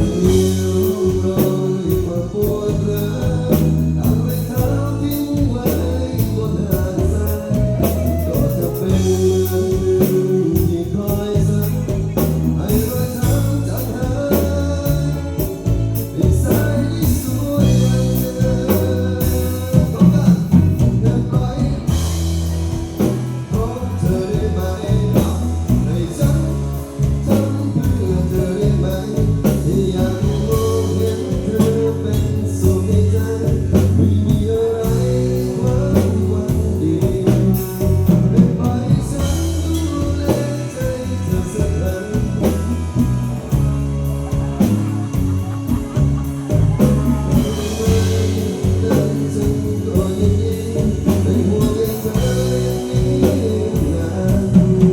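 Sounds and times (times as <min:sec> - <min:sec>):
live band playing pop song: 0:00.0 - 0:54.9.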